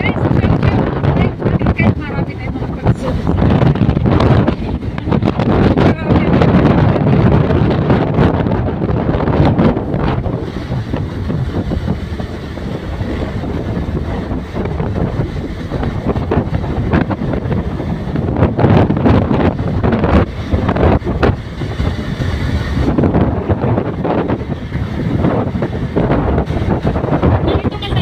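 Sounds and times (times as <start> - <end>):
motorcycle and road noise: 0.0 - 28.0
wind buffeting microphone: 0.0 - 28.0.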